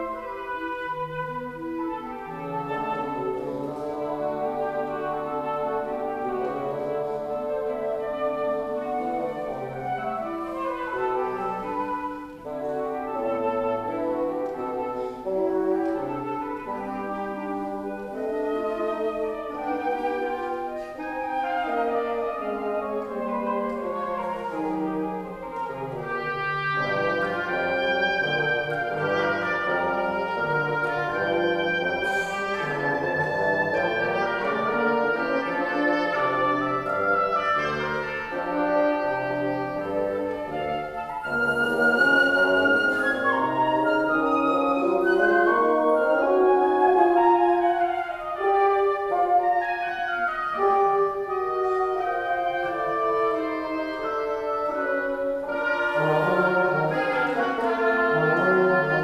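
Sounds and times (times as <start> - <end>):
wind quintet chamber music: 0.0 - 59.0.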